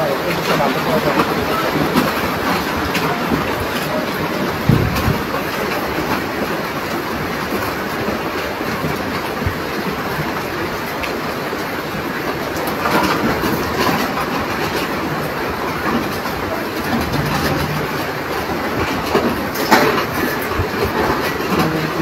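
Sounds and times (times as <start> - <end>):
floodwater roaring: 0.0 - 22.0.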